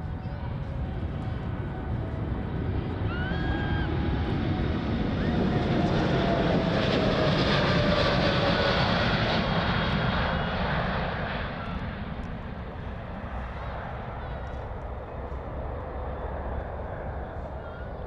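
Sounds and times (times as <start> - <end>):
jet airliner taking off: 0.0 - 18.0.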